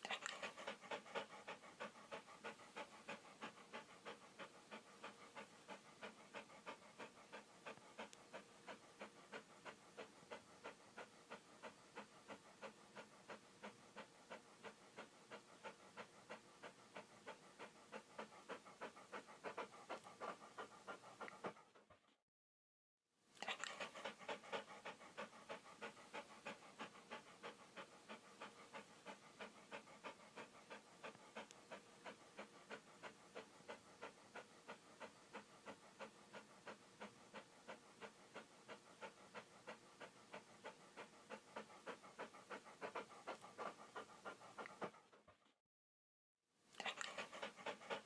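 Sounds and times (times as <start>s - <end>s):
dog panting rapidly: 0.0s - 22.2s, 23.4s - 45.6s, 46.8s - 48.0s.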